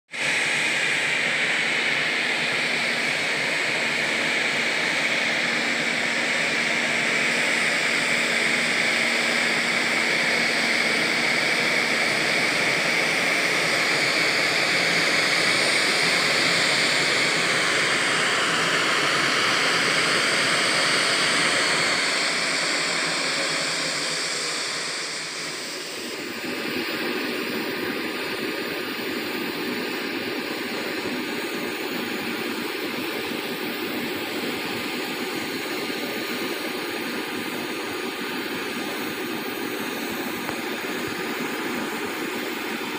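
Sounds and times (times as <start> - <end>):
jet engine whine: 0.1 - 42.9.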